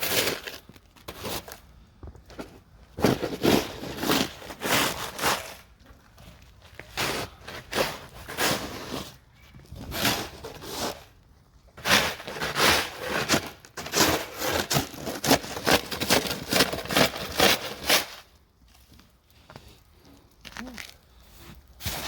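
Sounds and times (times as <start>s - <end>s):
snow crunching and scraping: 0.0s - 11.2s, 11.8s - 22.0s.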